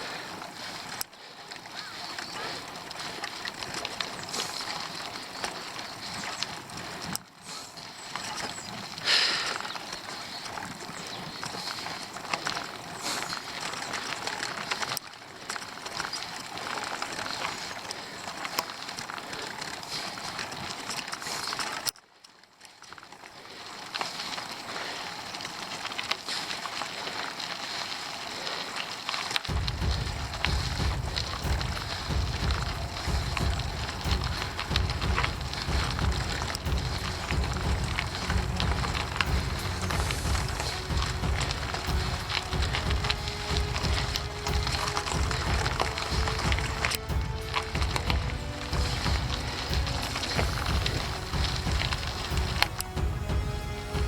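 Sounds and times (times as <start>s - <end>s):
bicycle rolling noise: 0.0s - 54.0s.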